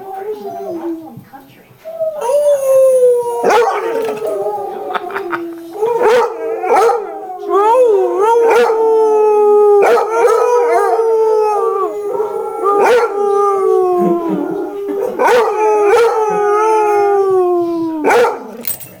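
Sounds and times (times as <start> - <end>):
recorded dog howling from video: 0.0 - 1.2, 1.8 - 18.8
dog howling: 1.9 - 18.8.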